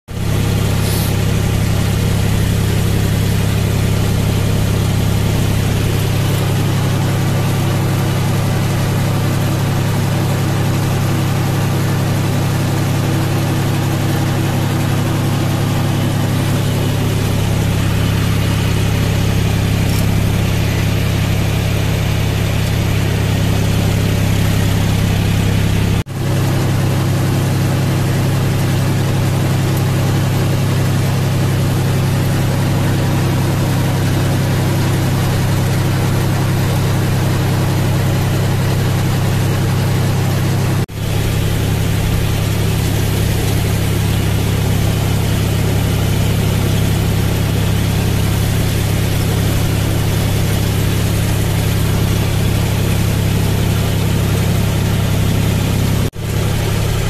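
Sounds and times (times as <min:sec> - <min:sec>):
rotavator working soil: 0:00.1 - 0:57.0
tractor diesel engine droning: 0:00.1 - 0:57.0.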